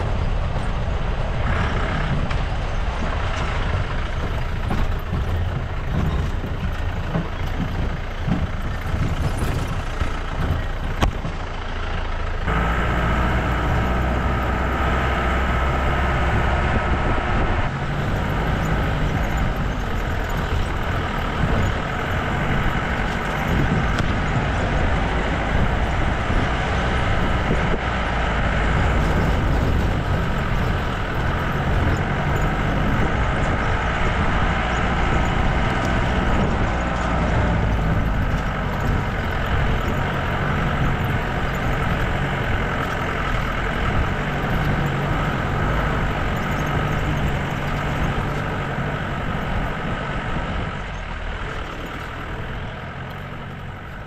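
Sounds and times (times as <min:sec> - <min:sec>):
jeep engine running: 0:00.0 - 0:54.0.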